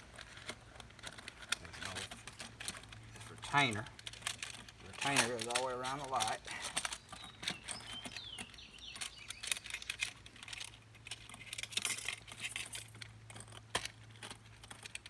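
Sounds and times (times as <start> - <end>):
small metal clicks and clinks: 0.1 - 15.0.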